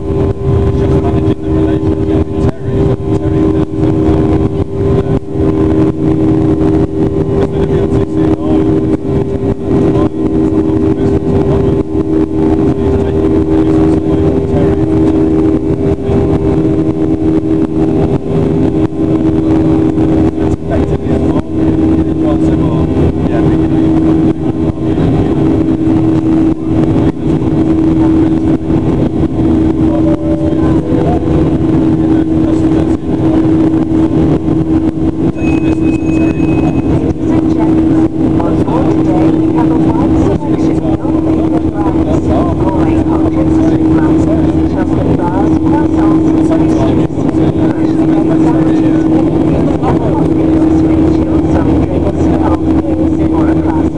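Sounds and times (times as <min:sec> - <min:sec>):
jet engines rumbling in cabin: 0:00.0 - 0:53.9
strong steady hum: 0:00.0 - 0:53.9.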